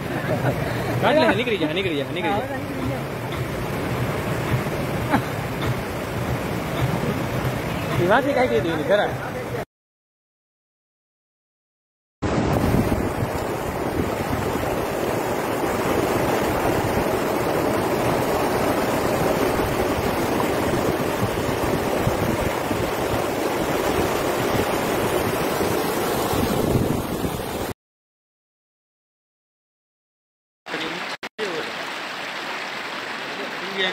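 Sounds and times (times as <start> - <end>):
floodwater rushing over rocks: 0.0 - 9.6, 12.2 - 27.8, 30.7 - 33.9.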